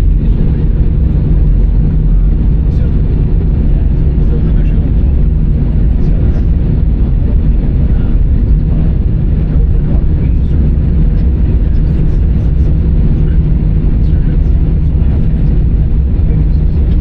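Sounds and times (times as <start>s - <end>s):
aircraft cabin rumble and hum: 0.0s - 17.0s.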